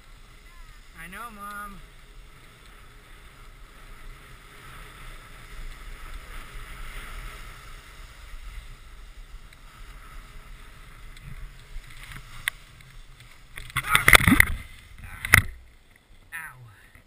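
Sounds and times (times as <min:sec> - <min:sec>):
snowboard scraping over snow: 0:00.0 - 0:16.2
wind rumbling on microphone: 0:00.0 - 0:16.9.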